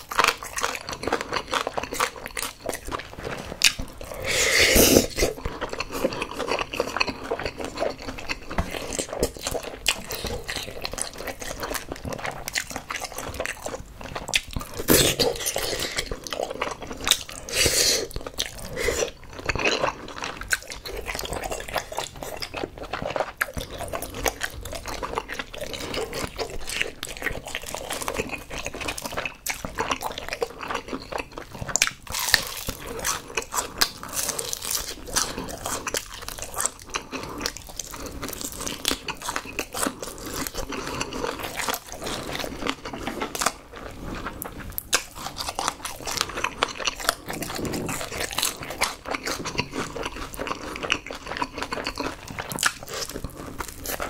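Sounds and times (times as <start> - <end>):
man chewing food: 0.0 - 54.0.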